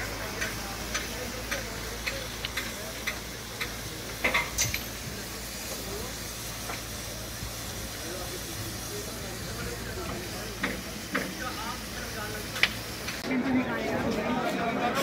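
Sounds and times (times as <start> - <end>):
fire crackling and popping: 0.0 - 13.2
steady hiss: 0.0 - 13.2.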